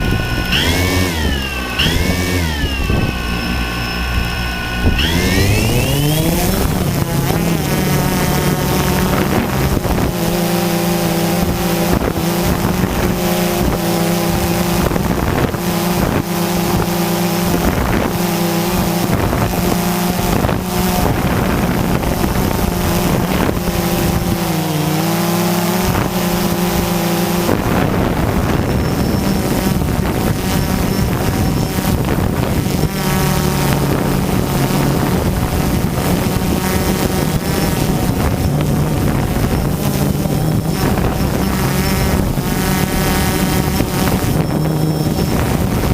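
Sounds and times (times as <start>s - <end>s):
quadcopter motors buzzing whine: 0.0s - 45.9s.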